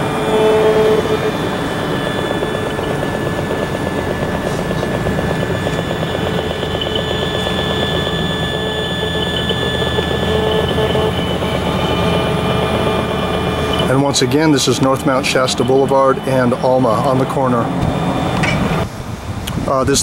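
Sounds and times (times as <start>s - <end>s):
high held electronic tones: 0.0s - 18.9s
pulsing electronic buzz: 0.0s - 18.9s.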